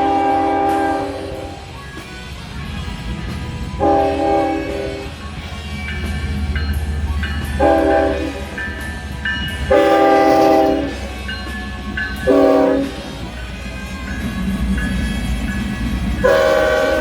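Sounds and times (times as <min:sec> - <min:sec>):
train horn chord: 0:00.0 - 0:02.0, 0:03.7 - 0:17.0
low train rumble: 0:00.0 - 0:17.0.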